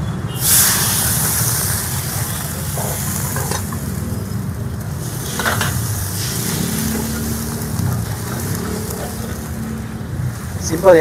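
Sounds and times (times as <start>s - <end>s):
water sizzling in hot wok: 0.3s - 11.0s
brush scraping wok: 0.4s - 10.5s.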